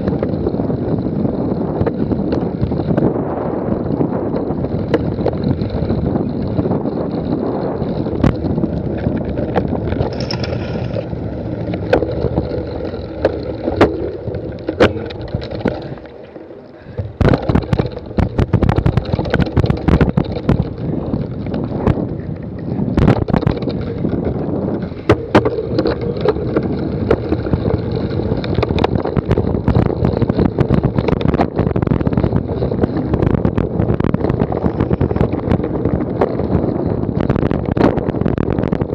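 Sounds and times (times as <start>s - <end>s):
bike knocking and rattling: 0.0s - 38.9s
wind rushing over microphone: 0.0s - 38.9s.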